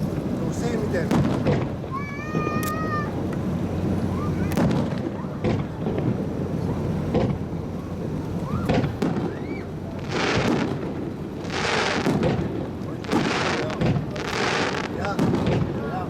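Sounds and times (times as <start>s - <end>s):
firework shells booming: 0.0s - 16.0s
hissing crackle of fireworks: 0.0s - 16.0s.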